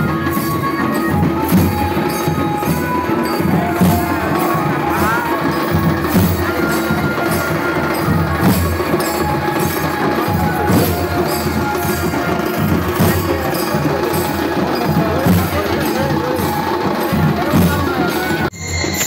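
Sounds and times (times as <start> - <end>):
drums: 0.0 - 19.0
jingling percussion: 0.0 - 19.0
percussion music with steady beat: 0.0 - 19.0.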